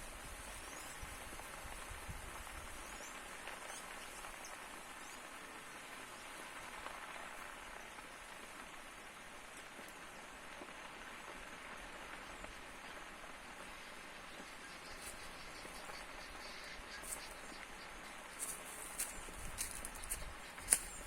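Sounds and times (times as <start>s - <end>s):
forest fire crackling: 0.0s - 21.0s.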